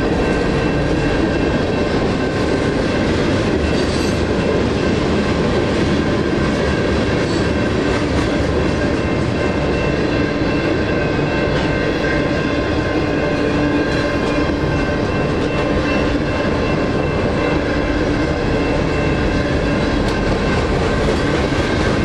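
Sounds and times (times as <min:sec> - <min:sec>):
crossing bells ringing: 0:00.0 - 0:22.0
train wheels rumbling on rails: 0:00.0 - 0:22.0.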